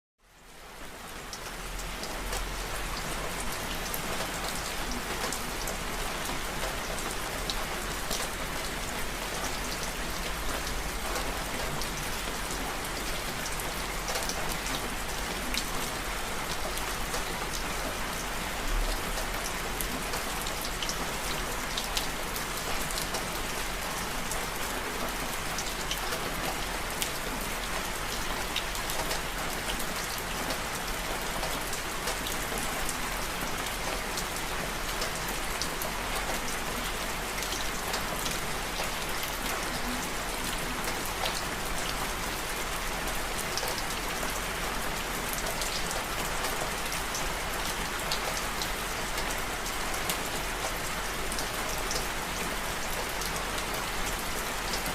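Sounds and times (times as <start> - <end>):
rain falling: 0.2 - 54.9.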